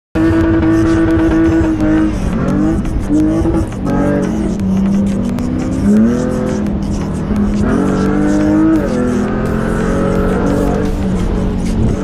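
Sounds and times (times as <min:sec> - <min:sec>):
suv engine revving: 0:00.2 - 0:12.0.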